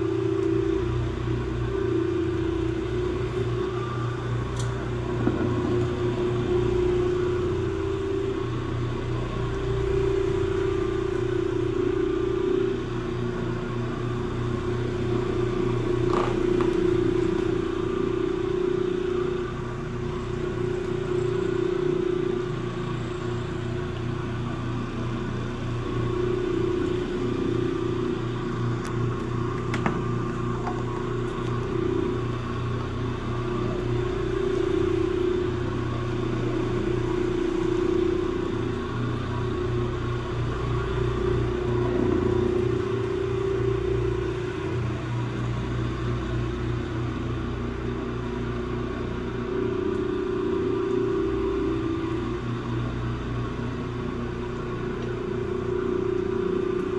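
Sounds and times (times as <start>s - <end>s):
floor machine motor humming: 0.0s - 56.9s.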